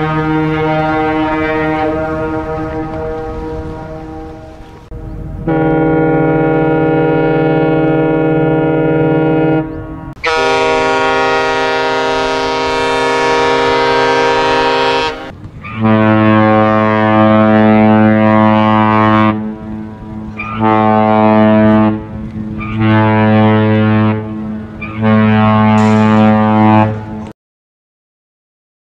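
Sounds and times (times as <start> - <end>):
low ship horn: 0.0 - 27.3
ship horn blasts: 0.0 - 27.3.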